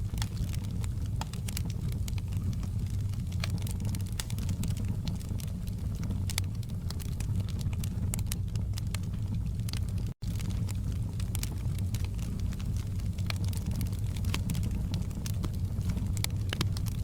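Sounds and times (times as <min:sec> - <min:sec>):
logs crackling in fireplace: 0:00.0 - 0:17.0
low rumble of fire: 0:00.0 - 0:17.0.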